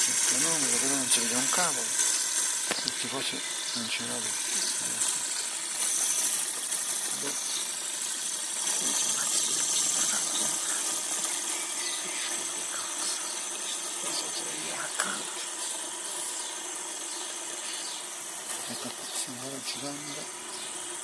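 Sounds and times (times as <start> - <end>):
fidget spinner whirring: 0.0 - 21.0.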